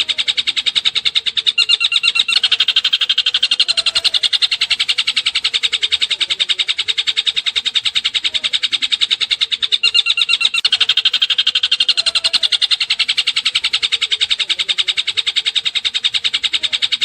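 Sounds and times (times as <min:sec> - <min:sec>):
bird singing rapid trill: 0:00.0 - 0:17.0.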